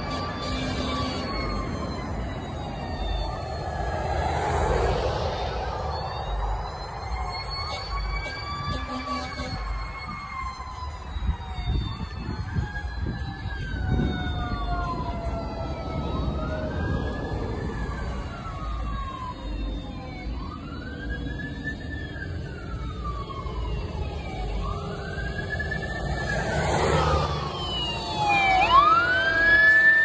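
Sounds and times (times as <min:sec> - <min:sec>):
fire truck siren wailing: 0:00.0 - 0:30.0
passing traffic rumble: 0:00.0 - 0:30.0
slowly falling siren tone: 0:00.0 - 0:30.0.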